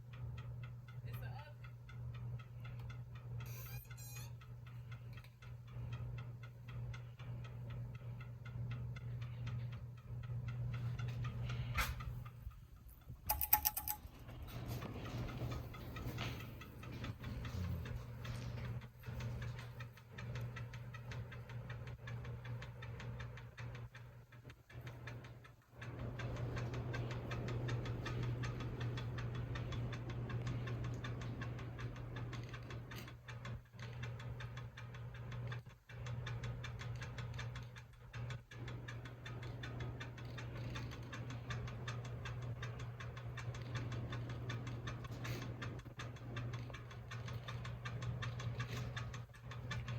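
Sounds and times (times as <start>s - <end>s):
ceiling fan motor hum: 0.0s - 49.9s
fan fast even ticking: 0.0s - 49.9s.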